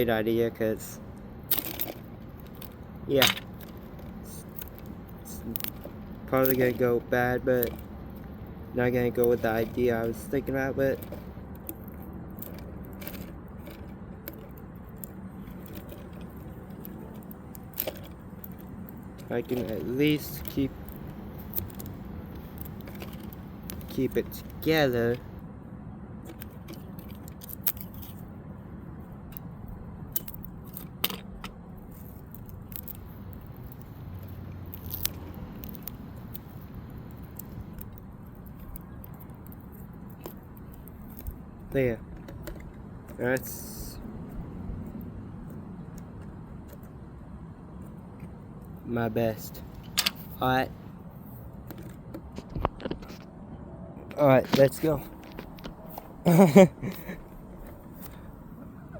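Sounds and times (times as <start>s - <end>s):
small clicks and scrapes of handling: 0.7s - 25.4s, 26.2s - 28.4s, 29.0s - 47.1s, 47.7s - 53.4s, 54.0s - 56.2s, 56.8s - 58.9s.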